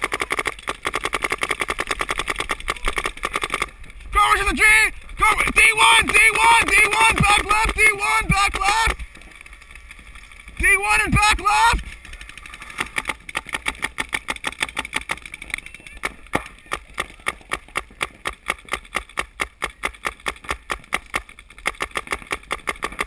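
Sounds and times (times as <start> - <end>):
paintball marker firing: 0.0 - 4.0, 5.4 - 9.0, 12.1 - 23.0.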